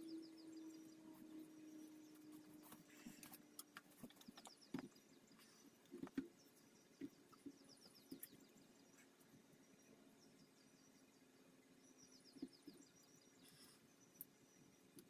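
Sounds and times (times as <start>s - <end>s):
faint bird chirps: 0.0s - 15.0s
low steady hum: 0.0s - 15.0s.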